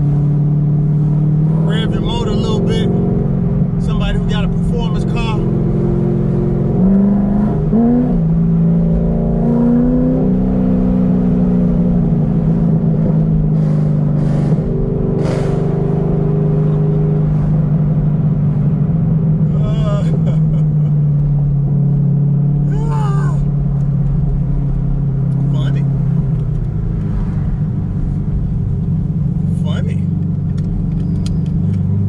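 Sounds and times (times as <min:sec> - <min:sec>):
car engine running at low revs: 0:00.0 - 0:32.0.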